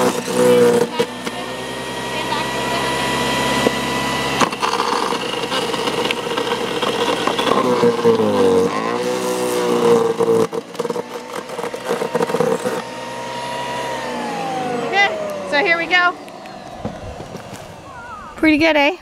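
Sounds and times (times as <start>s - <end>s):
wood chipper motor whine: 0.0s - 18.6s.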